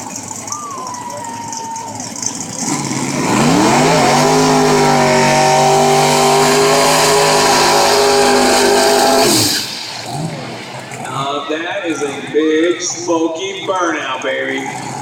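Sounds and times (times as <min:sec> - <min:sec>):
drag car engine revving: 0:00.0 - 0:15.0.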